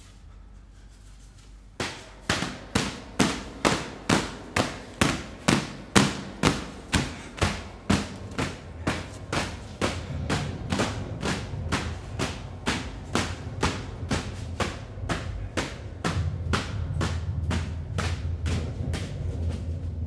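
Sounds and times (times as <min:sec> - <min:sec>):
low hum: 0:00.0 - 0:20.0
heavy thuds: 0:01.7 - 0:20.0.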